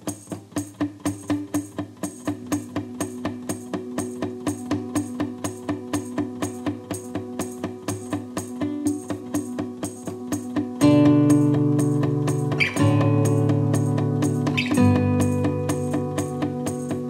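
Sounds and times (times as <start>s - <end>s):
background music with percussion beat: 0.0s - 17.0s.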